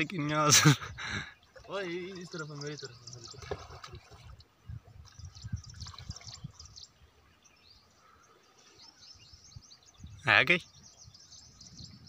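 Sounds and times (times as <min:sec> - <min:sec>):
faint river water: 0:00.0 - 0:12.0
small birds chirping: 0:00.0 - 0:12.0.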